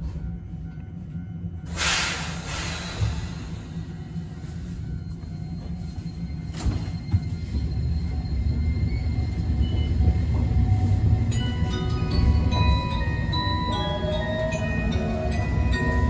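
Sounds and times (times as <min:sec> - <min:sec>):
railcar wheels rumbling: 0:00.0 - 0:16.0.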